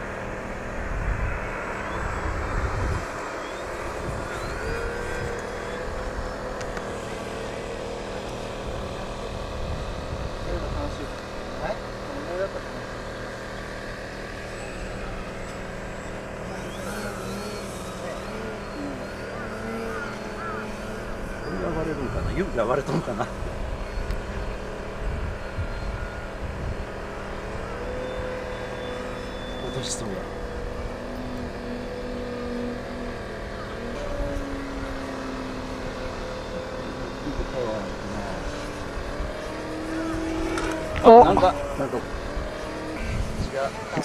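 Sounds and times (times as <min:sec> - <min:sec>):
model airplane engine droning: 0:00.0 - 0:44.0
warbling chirps: 0:01.2 - 0:11.6, 0:12.9 - 0:44.0.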